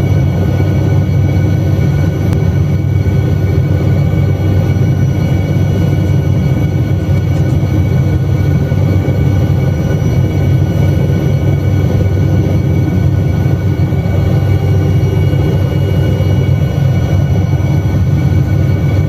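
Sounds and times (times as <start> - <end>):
helicopter engine and rotor drone: 0.0 - 19.0
high whining tones: 0.0 - 19.0.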